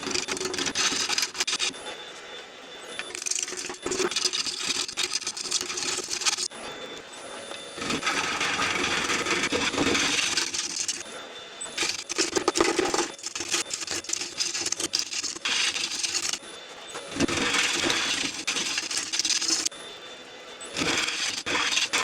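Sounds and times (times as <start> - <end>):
tool cutting wood on lathe: 0.0 - 1.7, 3.0 - 6.5, 7.8 - 16.4, 17.1 - 19.7, 20.7 - 22.0.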